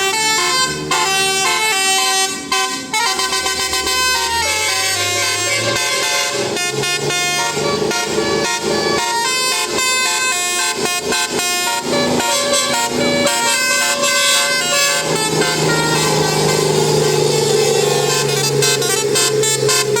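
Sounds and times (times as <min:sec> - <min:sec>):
musical air horn tune: 0:00.0 - 0:20.0.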